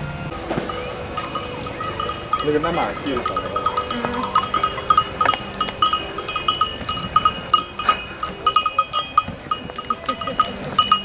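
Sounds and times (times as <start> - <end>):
harness bells jingling: 0.3 - 11.0.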